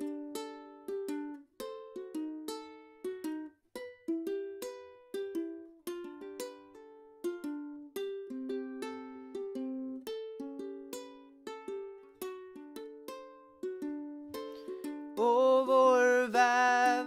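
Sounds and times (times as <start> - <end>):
ukulele fingerpicked: 0.0 - 17.0.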